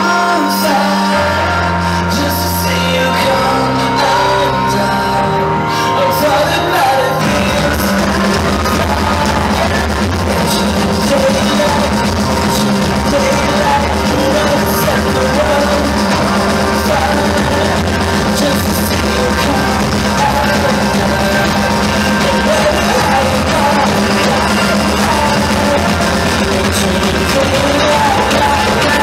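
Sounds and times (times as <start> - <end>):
drums: 0.0 - 29.0
electric guitars: 0.0 - 29.0
lead vocals singing: 0.0 - 29.0
rock band playing live: 0.0 - 29.0.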